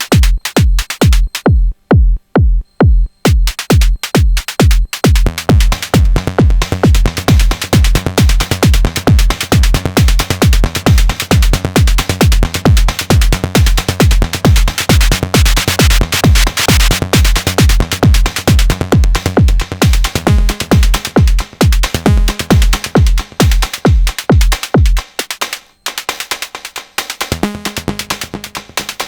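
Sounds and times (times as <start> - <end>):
drum machine kick: 0.0 - 29.0
hi-hats and percussion: 0.0 - 29.0.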